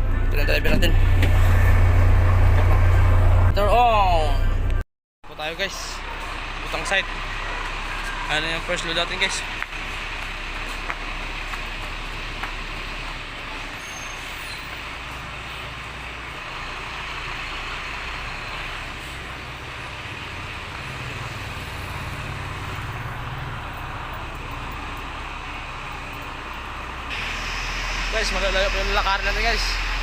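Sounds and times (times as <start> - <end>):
road noise rushing: 0.0 - 30.0
vehicle engine hum: 0.0 - 30.0.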